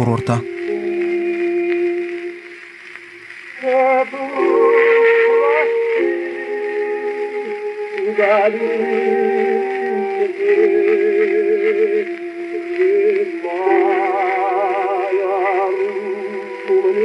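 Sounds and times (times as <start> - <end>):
old gramophone song: 0.0 - 17.0.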